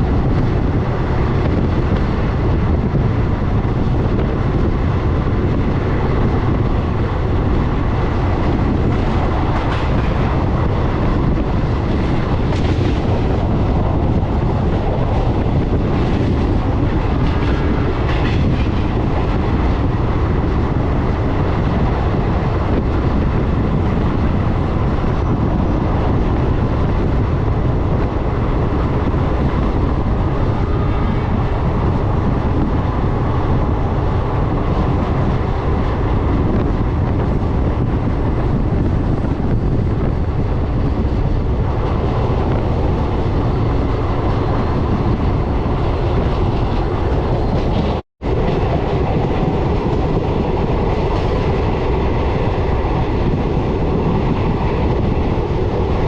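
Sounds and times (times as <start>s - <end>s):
train rattle: 0.0s - 56.0s
train wheels rumbling on rail: 0.0s - 56.0s
wind: 0.0s - 56.0s.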